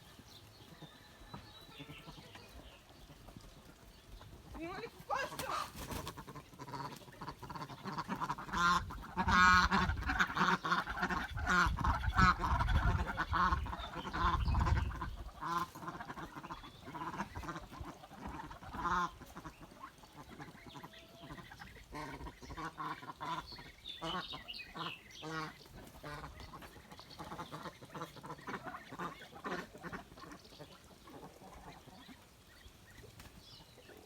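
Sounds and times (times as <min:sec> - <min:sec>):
ducks and geese honking: 0:00.0 - 0:34.0.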